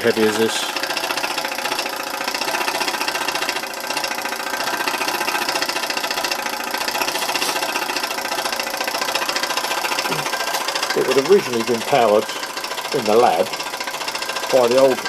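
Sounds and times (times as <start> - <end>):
model steam engine chuffing: 0.0 - 15.0.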